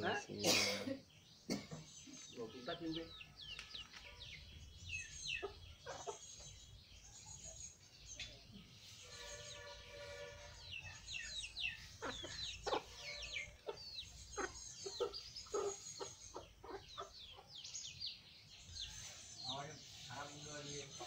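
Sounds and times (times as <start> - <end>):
chickens clucking: 1.1 - 21.0.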